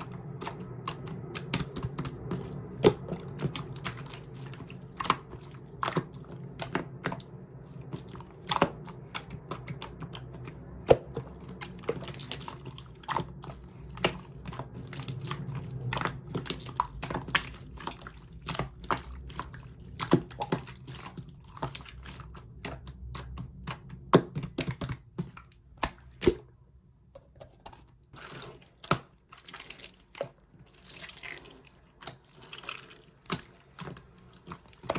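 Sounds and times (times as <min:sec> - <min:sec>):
slime squishing with wet pops: 0:00.0 - 0:26.5, 0:27.8 - 0:34.9.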